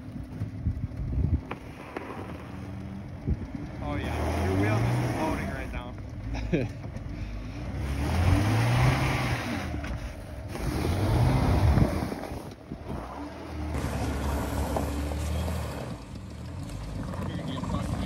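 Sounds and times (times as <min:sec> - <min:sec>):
minivan engine revving: 0:00.0 - 0:18.0
tire spinning in snow: 0:00.0 - 0:18.0.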